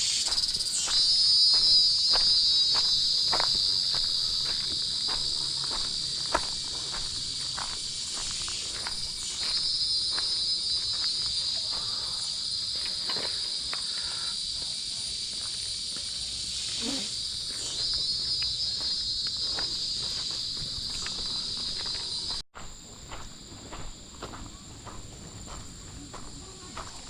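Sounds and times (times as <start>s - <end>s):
buzzing insect chorus: 0.0s - 27.0s.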